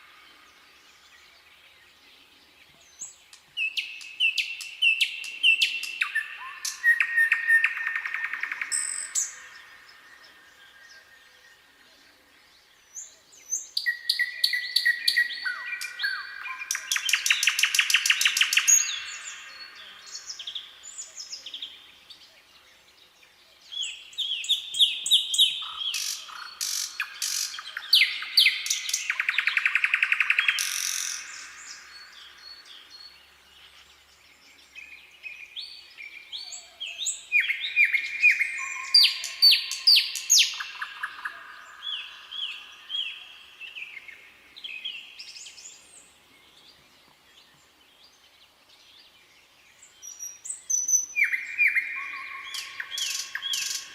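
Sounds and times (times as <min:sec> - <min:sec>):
nightingale singing: 0:00.0 - 0:53.9.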